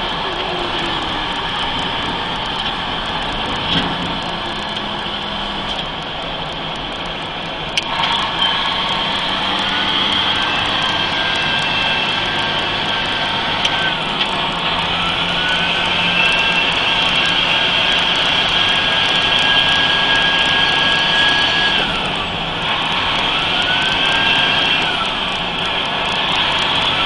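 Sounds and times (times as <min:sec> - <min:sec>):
diesel engine running: 0:00.0 - 0:27.0
turbocharger whine: 0:00.0 - 0:27.0.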